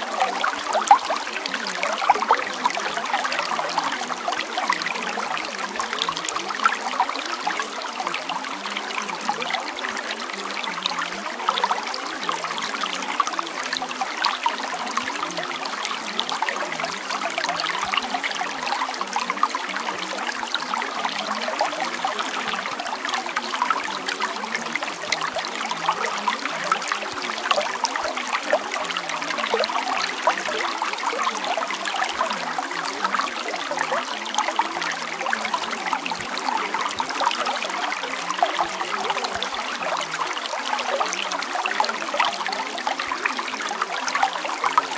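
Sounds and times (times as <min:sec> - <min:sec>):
trickling water: 0:00.0 - 0:44.9.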